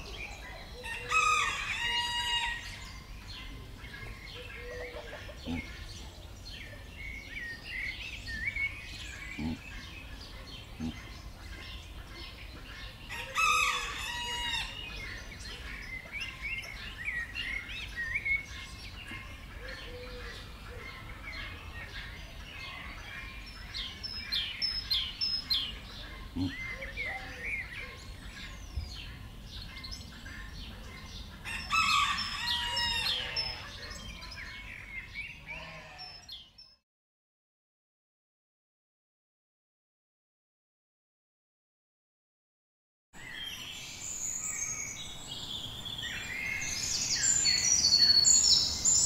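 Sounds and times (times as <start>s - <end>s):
forest birds chirping: 0.0s - 36.8s, 43.2s - 49.0s.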